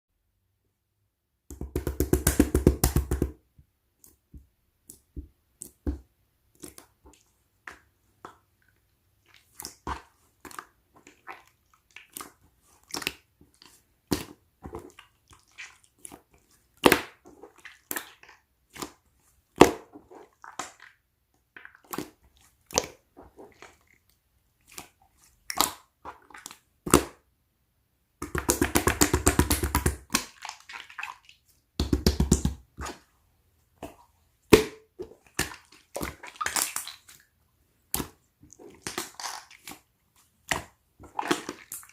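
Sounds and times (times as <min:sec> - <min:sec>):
hands squishing slime: 0:04.0 - 0:27.2, 0:28.2 - 0:41.9.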